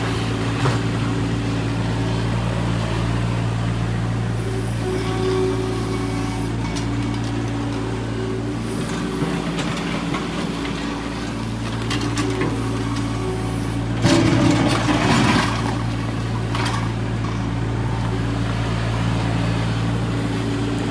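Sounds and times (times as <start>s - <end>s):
excavator diesel engine running: 0.0s - 20.9s.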